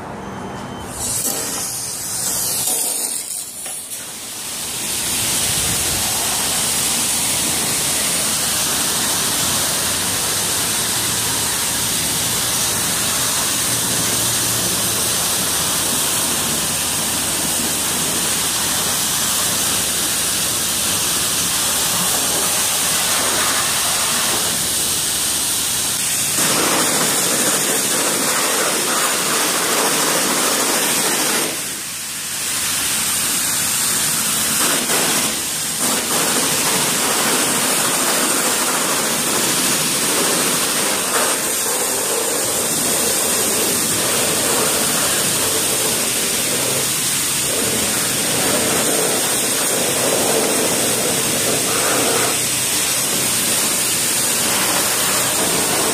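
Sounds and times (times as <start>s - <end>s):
pressure washer jet spraying: 0.9s - 55.9s.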